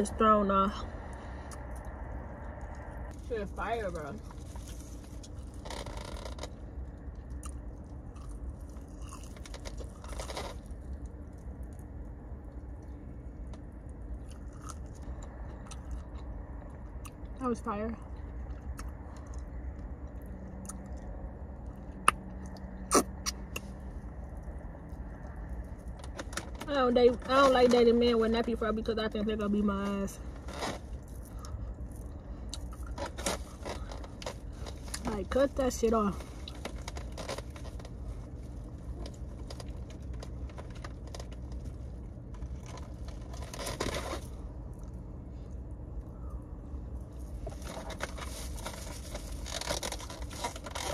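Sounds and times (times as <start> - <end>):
low steady hum: 0.0 - 50.9
rustling: 0.8 - 11.9, 18.4 - 50.9
person chewing with crunches: 4.2 - 17.4, 18.0 - 26.6, 30.3 - 35.1, 36.2 - 50.9.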